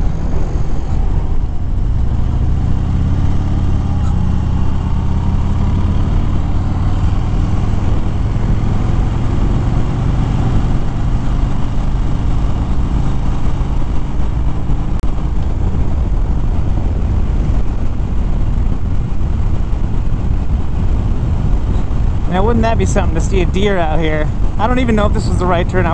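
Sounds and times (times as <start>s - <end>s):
motorcycle engine cruising: 0.0s - 25.9s
wind noise: 0.0s - 25.9s.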